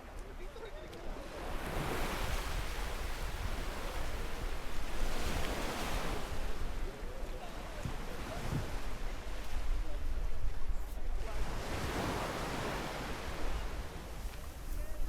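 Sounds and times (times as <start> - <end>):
sea waves breaking on beach: 0.0 - 15.0
wind rumble on microphone: 1.6 - 15.0.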